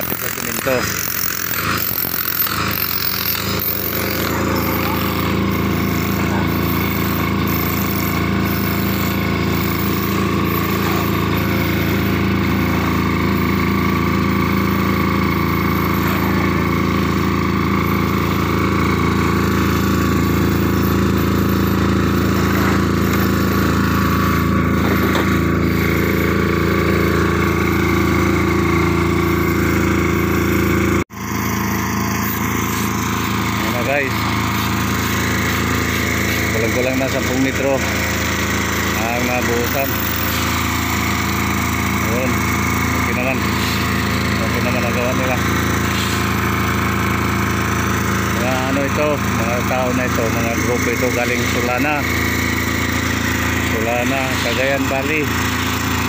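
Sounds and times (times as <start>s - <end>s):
electric chipping hammer on concrete: 0.0s - 56.0s
generator engine running: 0.0s - 56.0s.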